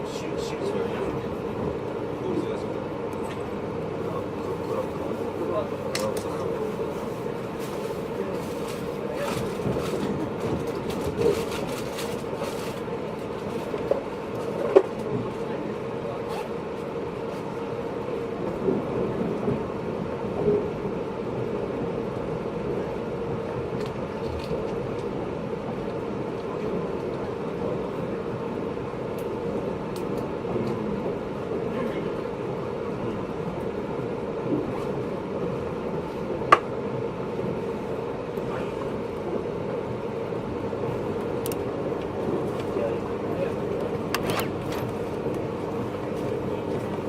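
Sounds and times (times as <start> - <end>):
constant hum: 0.0 - 47.0
train rumble: 0.0 - 47.0.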